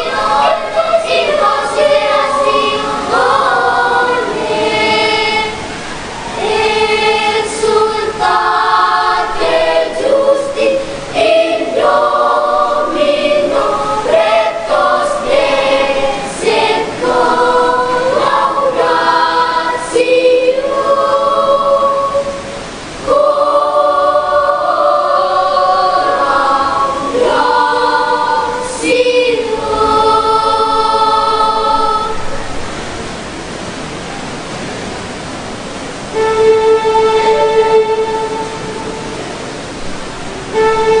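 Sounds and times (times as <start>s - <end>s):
children's choir singing: 0.0s - 34.0s, 34.6s - 41.0s
steady hiss: 0.0s - 41.0s.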